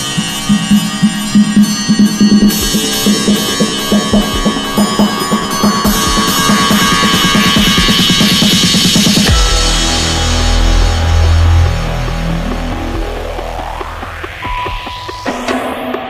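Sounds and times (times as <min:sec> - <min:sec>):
drum kit: 0:00.0 - 0:16.0
music with pulsing beat: 0:00.0 - 0:16.0.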